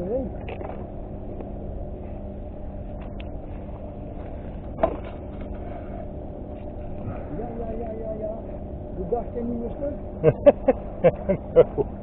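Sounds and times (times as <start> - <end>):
low rumble with droning hum: 0.0 - 12.0.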